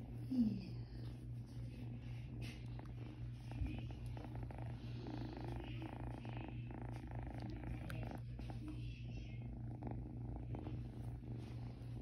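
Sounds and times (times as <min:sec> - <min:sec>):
kitten purring: 0:00.0 - 0:12.0.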